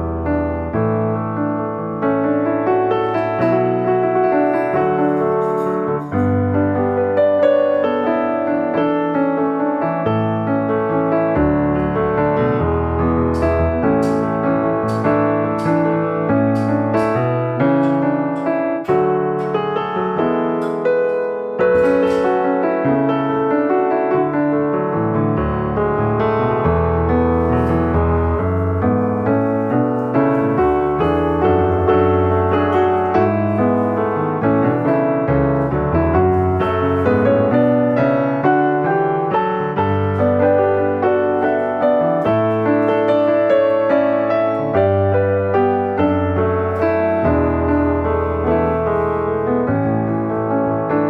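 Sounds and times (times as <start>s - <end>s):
background piano music: 0.0s - 51.0s.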